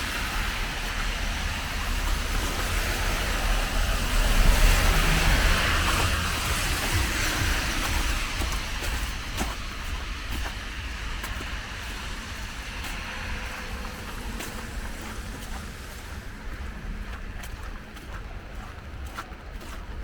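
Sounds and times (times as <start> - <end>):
tyres hissing on wet road: 0.0 - 19.0
wind rumble on microphone: 0.0 - 20.0.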